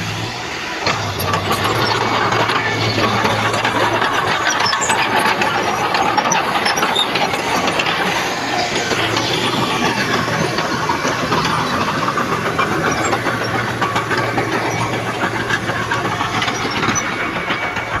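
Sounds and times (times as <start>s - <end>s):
diesel engine running: 0.0s - 18.0s
rapid metallic clatter: 0.0s - 18.0s.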